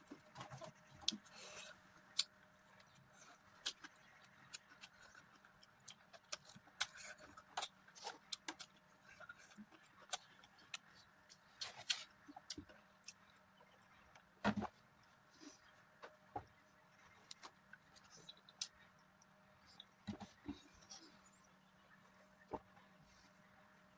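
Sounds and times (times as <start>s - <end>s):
person chewing food: 0.1s - 21.2s.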